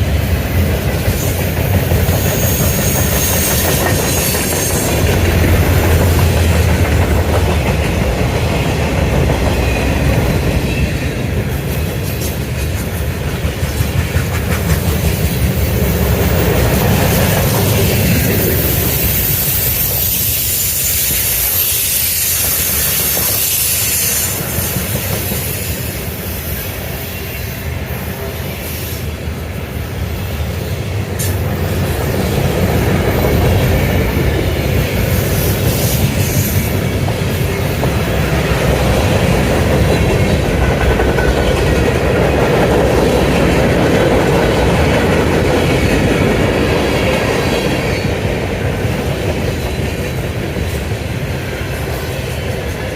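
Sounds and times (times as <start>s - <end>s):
freight train rumble and clatter: 0.0s - 52.9s.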